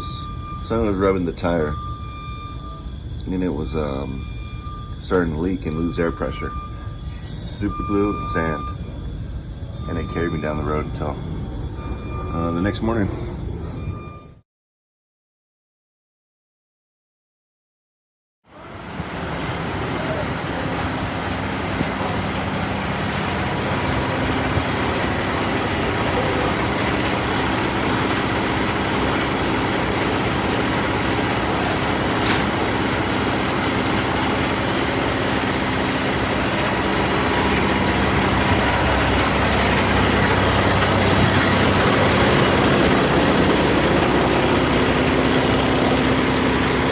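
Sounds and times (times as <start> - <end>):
truck diesel engine idling: 0.0 - 14.2, 18.6 - 46.9.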